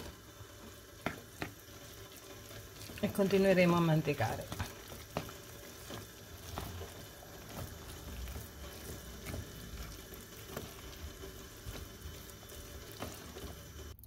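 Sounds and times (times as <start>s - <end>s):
spoon stirring thick risotto: 0.0s - 14.0s.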